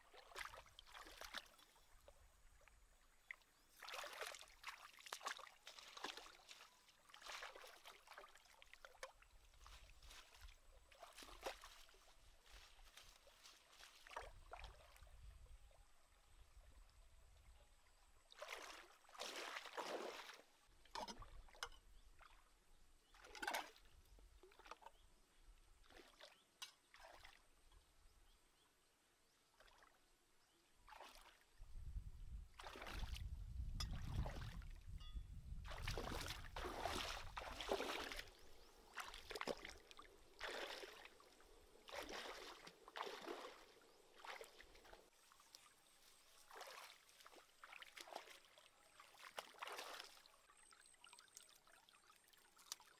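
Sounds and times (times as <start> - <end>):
water splashing while wading: 0.0 - 2.1, 3.2 - 15.2, 18.3 - 25.0, 25.8 - 27.4, 30.9 - 31.6, 32.5 - 34.9, 35.6 - 52.9.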